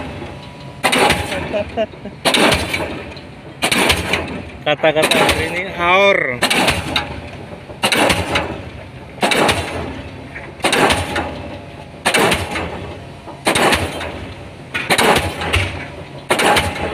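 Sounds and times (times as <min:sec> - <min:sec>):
pile hammer blows: 0:00.8 - 0:05.8, 0:06.4 - 0:07.2, 0:07.8 - 0:16.9.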